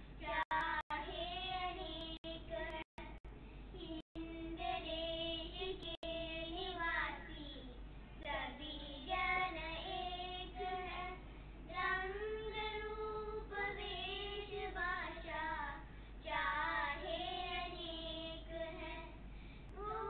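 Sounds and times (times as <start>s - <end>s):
girls singing together: 0.2s - 3.2s, 3.8s - 7.3s, 8.2s - 20.0s.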